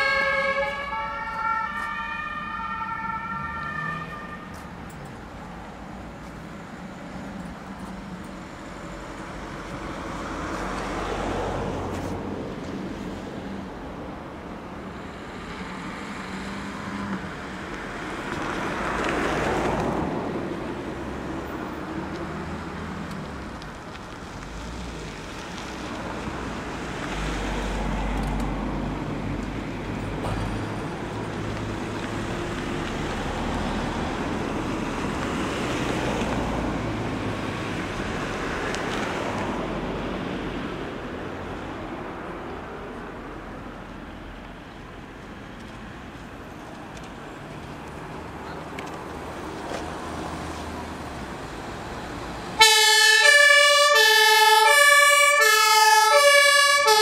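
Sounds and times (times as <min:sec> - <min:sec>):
diesel engine rumble: 0:00.0 - 0:57.0.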